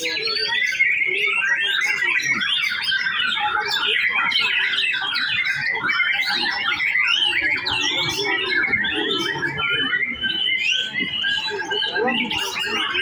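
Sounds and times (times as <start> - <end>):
songbird whistles and trills: 0.0 - 13.0.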